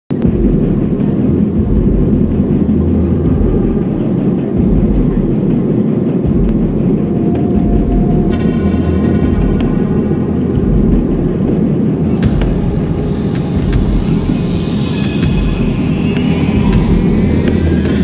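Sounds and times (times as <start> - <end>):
jet engines rumbling: 0.1 - 18.0.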